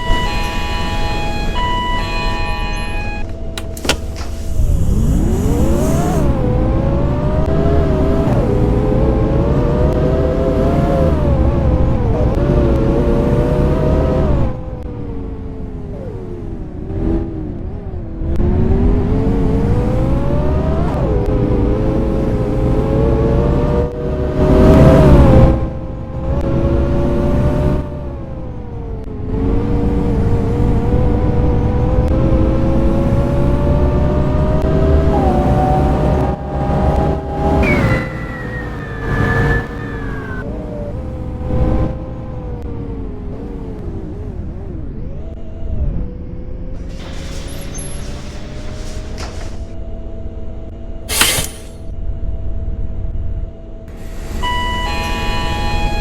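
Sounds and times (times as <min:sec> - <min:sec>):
bus diesel engine accelerating: 0:00.0 - 0:51.8, 0:53.7 - 0:56.0.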